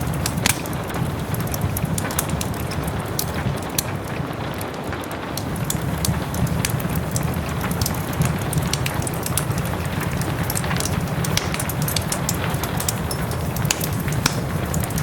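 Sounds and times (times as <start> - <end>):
soft rain: 0.0 - 15.0
wood fire crackling and popping: 0.0 - 15.0.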